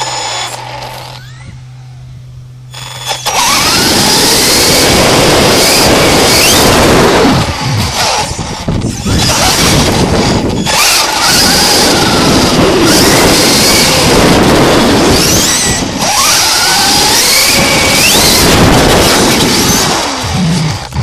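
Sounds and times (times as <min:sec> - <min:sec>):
electric motor whine: 0:00.0 - 0:21.0
rc truck tyres rumbling on concrete: 0:02.7 - 0:21.0.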